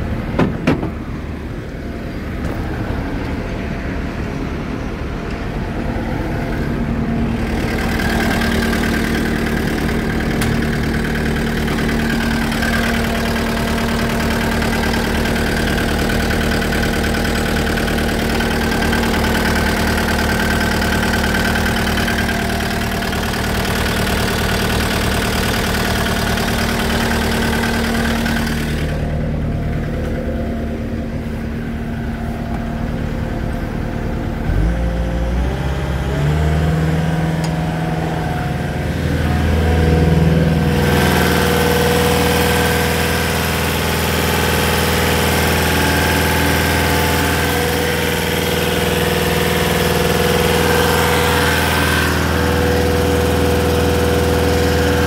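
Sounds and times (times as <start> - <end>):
diesel engine idling and revving: 0.0 - 55.0.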